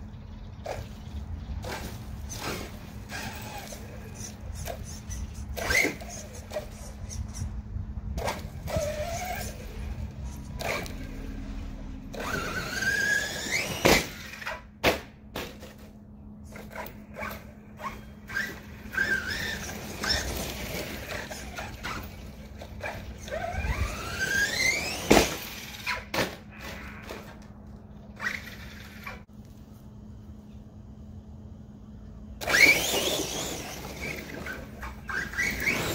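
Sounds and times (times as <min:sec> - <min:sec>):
electric motor whining: 0:00.6 - 0:14.7, 0:16.5 - 0:29.2, 0:32.4 - 0:35.9.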